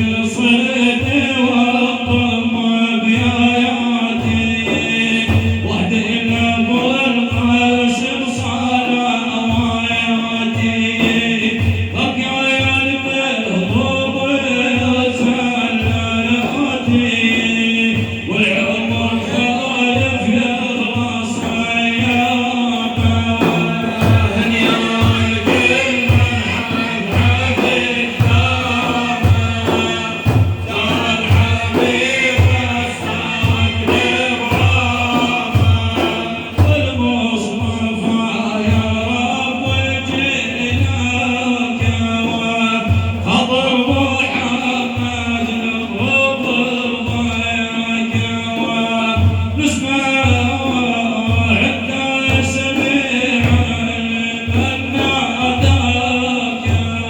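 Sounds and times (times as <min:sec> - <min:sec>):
steady drum beat: 0:00.0 - 0:57.0
voices chanting a praise song: 0:00.0 - 0:57.0.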